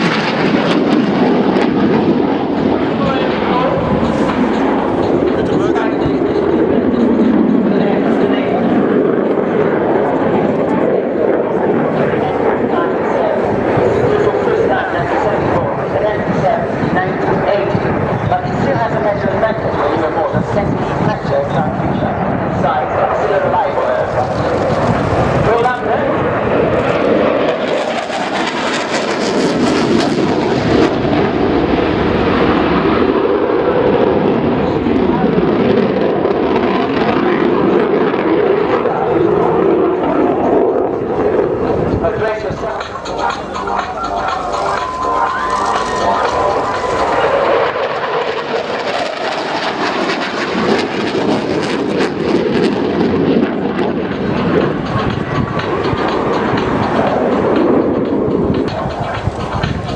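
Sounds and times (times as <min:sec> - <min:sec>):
jet engine crackles: 0:00.0 - 0:32.9, 0:36.9 - 0:59.9
jet engine roar: 0:00.0 - 0:59.9.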